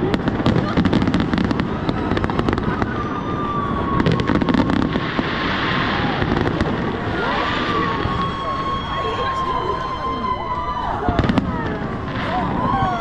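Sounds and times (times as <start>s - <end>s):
fireworks cracking and popping: 0.0s - 13.0s
loud continuous background din: 0.0s - 13.0s.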